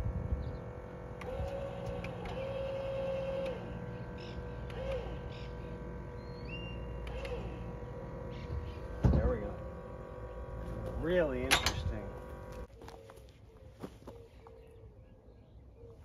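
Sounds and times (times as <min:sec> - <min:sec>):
electric jack motor whining: 0:00.0 - 0:13.0.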